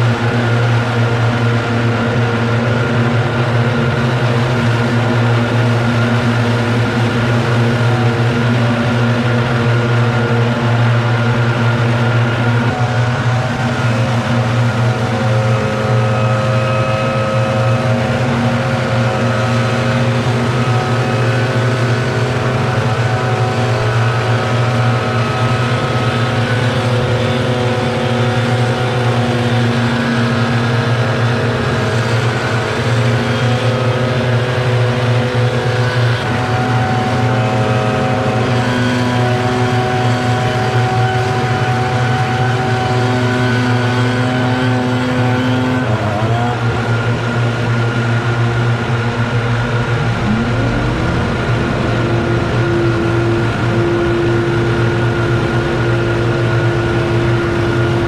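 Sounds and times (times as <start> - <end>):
lawn equipment engines running: 0.0 - 58.0.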